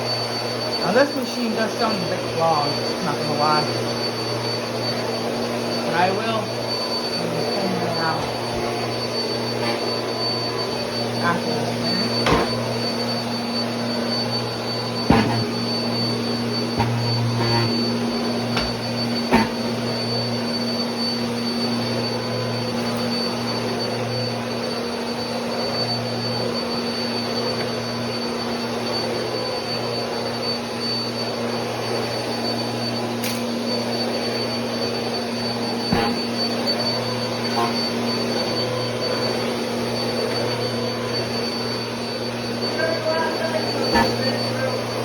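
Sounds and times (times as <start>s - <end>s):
upright vacuum running: 0.0s - 45.0s.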